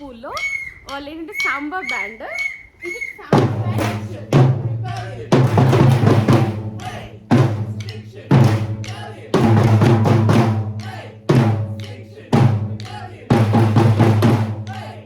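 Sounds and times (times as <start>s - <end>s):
snare and percussion: 0.0s - 15.0s.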